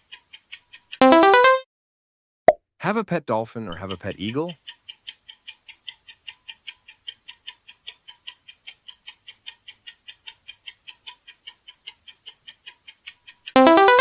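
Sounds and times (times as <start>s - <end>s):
clock ticking: 0.0s - 1.6s, 3.7s - 14.0s.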